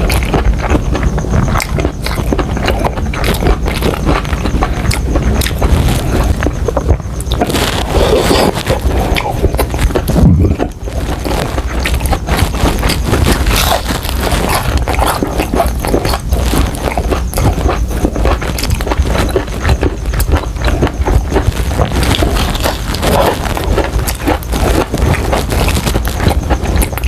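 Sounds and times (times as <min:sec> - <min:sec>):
chewing crunchy fried chicken: 0:00.0 - 0:27.0.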